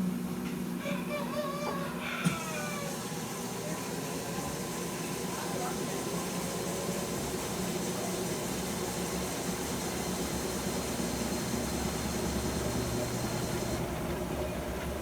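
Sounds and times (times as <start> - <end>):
washing machine spinning: 2.3 - 15.0.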